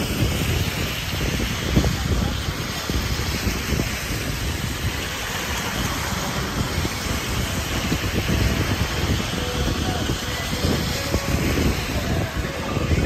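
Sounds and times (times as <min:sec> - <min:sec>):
cars driving on wet road: 0:00.0 - 0:13.0
heavy rain hissing: 0:00.0 - 0:13.0.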